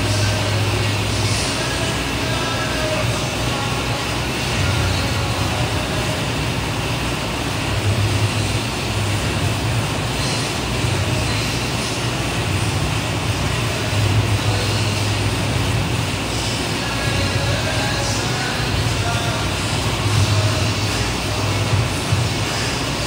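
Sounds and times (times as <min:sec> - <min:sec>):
air bike fan whooshing: 0:00.0 - 0:23.0.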